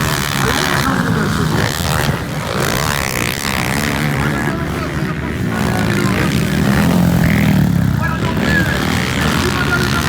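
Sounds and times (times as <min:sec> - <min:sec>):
motocross engines revving: 0:00.0 - 0:10.0.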